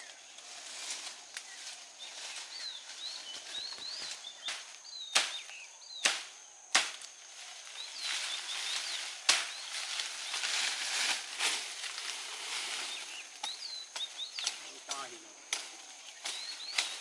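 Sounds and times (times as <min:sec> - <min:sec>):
leaves and branches rustling: 0:00.0 - 0:17.0.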